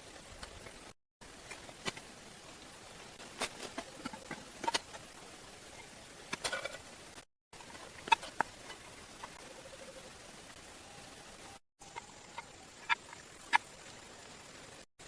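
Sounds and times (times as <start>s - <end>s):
steady hiss: 0.0s - 14.9s.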